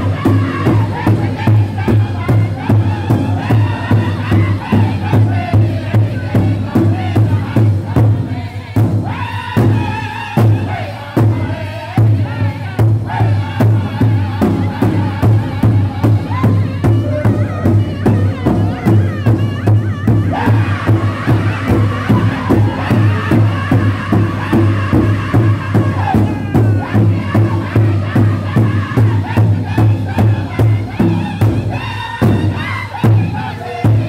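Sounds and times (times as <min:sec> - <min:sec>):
large bass drum beat: 0:00.0 - 0:34.0
men singing together: 0:00.0 - 0:34.0.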